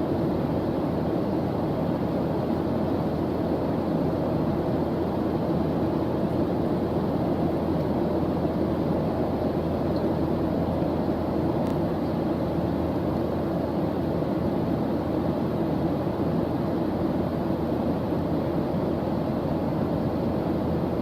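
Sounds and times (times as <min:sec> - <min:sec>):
dark low-pitched background noise: 0:00.0 - 0:21.0.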